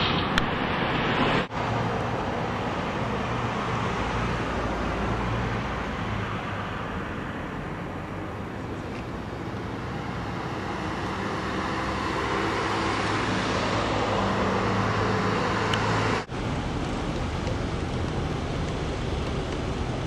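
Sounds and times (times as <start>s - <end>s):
road traffic: 0.0s - 20.0s
vehicle engine humming: 0.0s - 20.0s.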